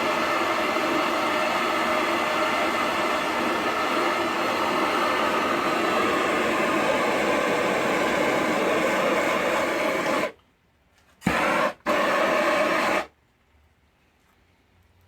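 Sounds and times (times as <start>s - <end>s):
gas torch flame hissing: 0.0s - 10.4s, 11.2s - 13.1s.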